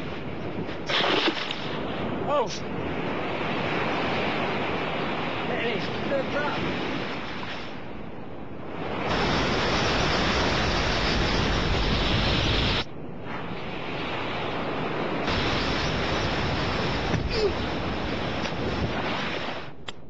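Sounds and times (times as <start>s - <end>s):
breaking waves: 0.0s - 19.8s.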